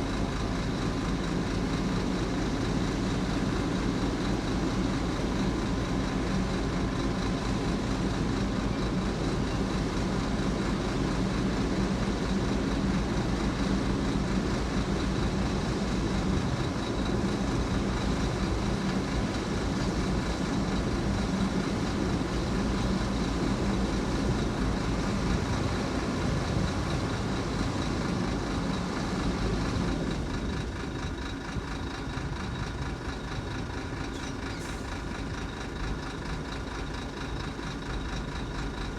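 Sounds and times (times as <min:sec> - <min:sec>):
heavy diesel engine under load: 0:00.0 - 0:38.9.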